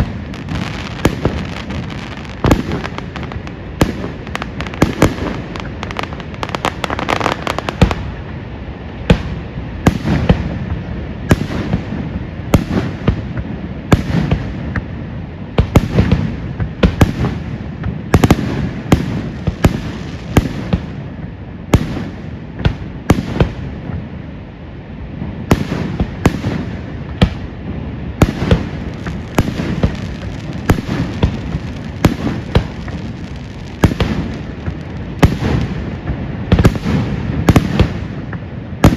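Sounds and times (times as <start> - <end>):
fireworks bangs and booms: 0.0 - 38.9
fireworks crackle and rumble: 0.0 - 38.9.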